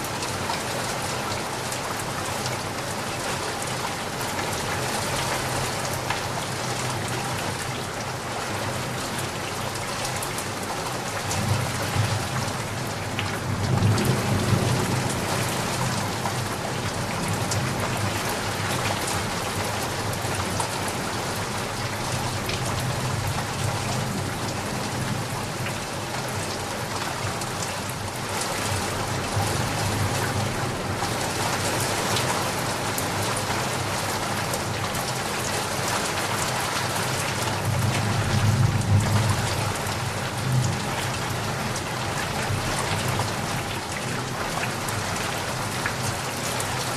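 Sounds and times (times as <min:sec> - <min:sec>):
rain falling on a surface: 0:00.0 - 0:46.9.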